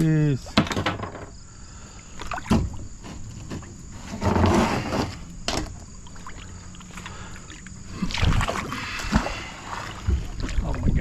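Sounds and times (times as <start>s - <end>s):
kayak splashing in water: 2.0s - 11.0s.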